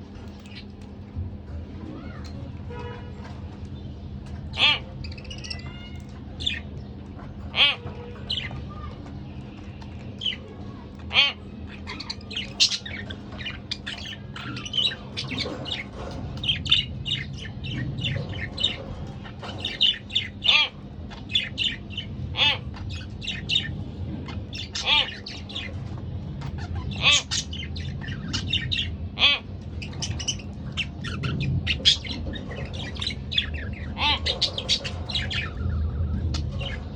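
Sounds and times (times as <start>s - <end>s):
budgerigars chirping and squawking: 4.2s - 8.9s, 9.5s - 36.9s.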